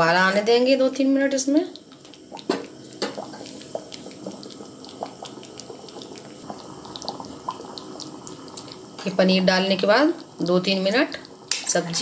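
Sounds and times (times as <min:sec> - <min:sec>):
thick gravy bubbling and plopping: 0:01.4 - 0:12.0.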